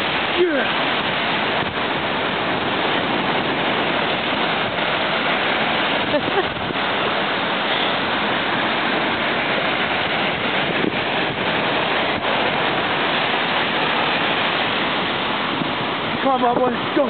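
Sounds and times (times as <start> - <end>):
ocean surf: 0.0 - 17.0
wind on microphone: 0.0 - 17.0.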